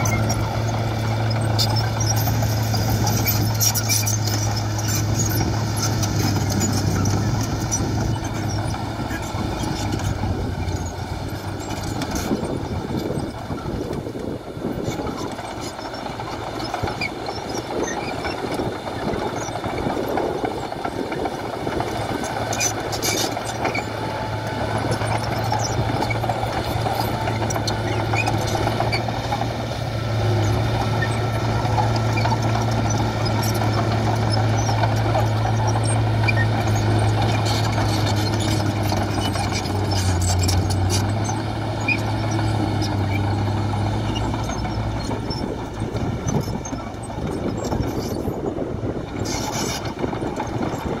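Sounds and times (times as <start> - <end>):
bulldozer diesel engine running: 0.0 - 51.0.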